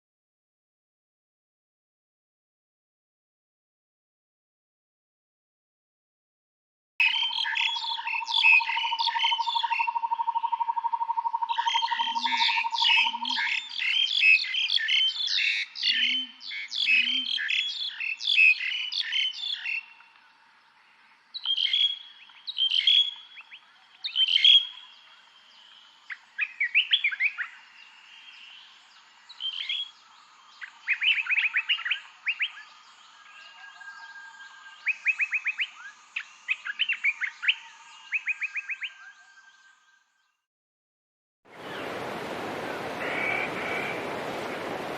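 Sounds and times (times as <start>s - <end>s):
songbirds chirping: 7.0s - 40.4s, 41.5s - 44.9s.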